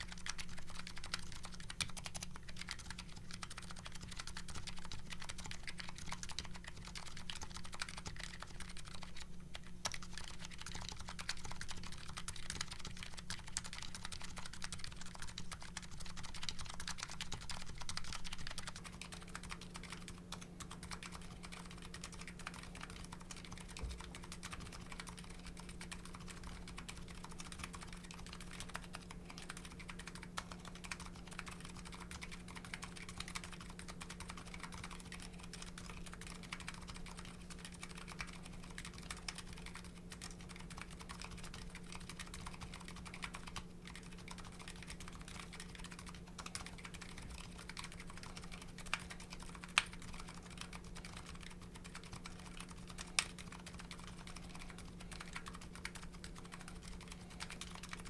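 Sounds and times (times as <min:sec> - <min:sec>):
keyboard typing clicks: 0:00.0 - 0:58.0.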